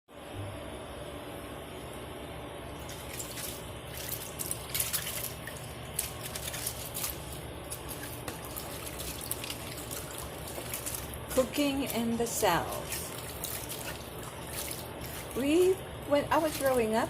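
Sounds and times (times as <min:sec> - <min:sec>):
water bubbling: 0:02.8 - 0:17.0.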